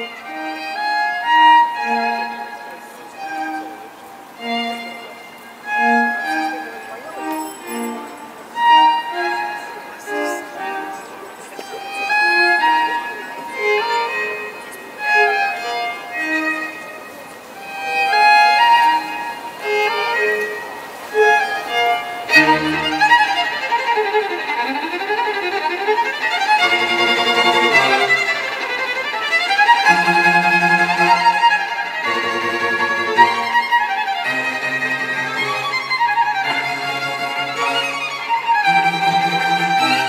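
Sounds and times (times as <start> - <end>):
violin melody: 0.0 - 40.0.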